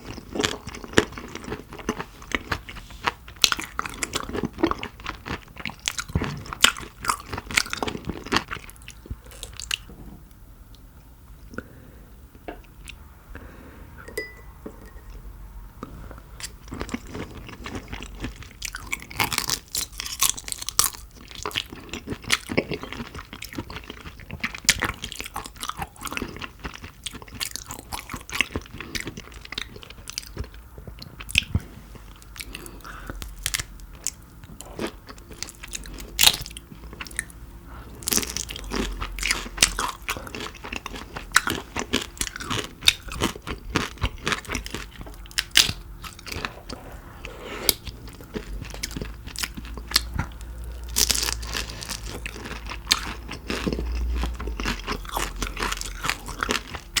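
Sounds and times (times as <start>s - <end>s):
chewing and crunching shrimp: 0.0s - 10.0s, 15.8s - 57.0s.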